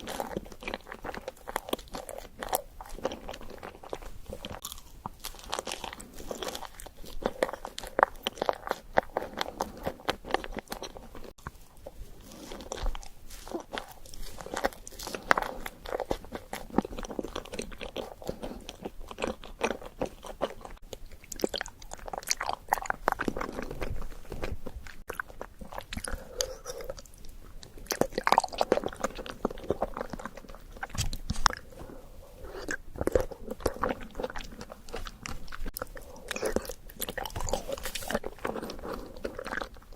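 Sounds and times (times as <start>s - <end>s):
person chewing with crunches: 0.0s - 39.9s.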